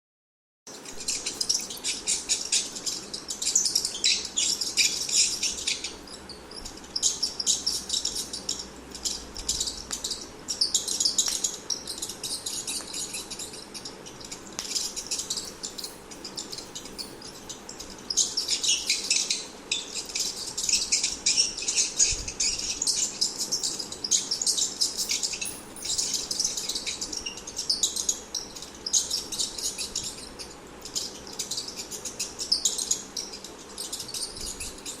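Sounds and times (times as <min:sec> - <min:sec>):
rat squeaking: 0:00.8 - 0:35.0.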